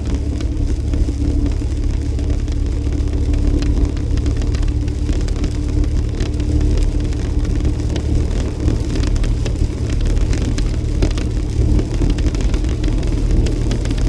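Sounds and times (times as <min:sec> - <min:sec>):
constant hum: 0:00.0 - 0:14.0
road and engine rumble: 0:00.0 - 0:14.0.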